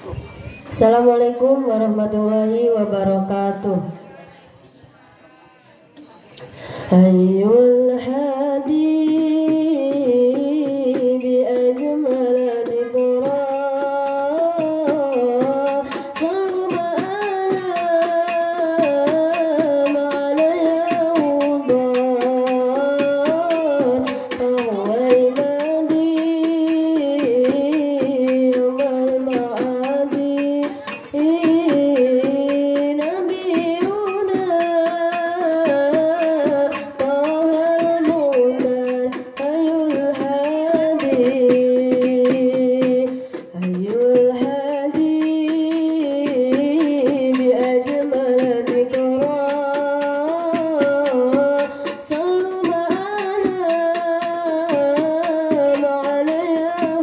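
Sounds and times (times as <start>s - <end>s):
girl singing devotional song: 0.7s - 4.0s, 6.8s - 57.0s.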